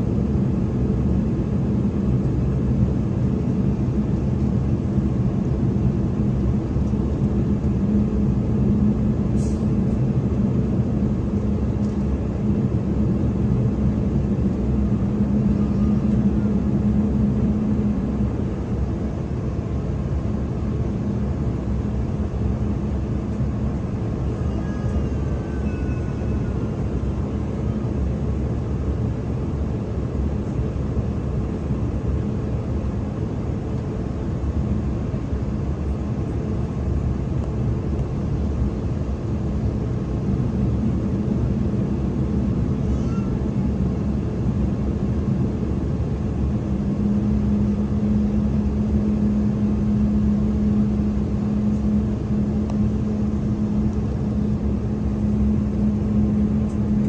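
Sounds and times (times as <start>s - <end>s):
jet engines rushing hum: 0.0s - 57.0s.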